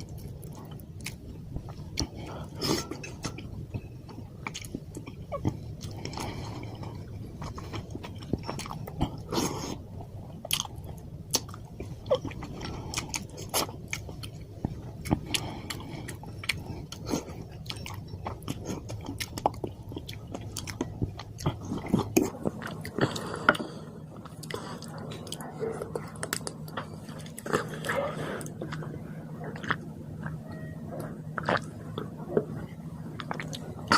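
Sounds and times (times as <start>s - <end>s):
low steady hum: 0.0s - 33.9s
person chewing food: 0.0s - 33.9s.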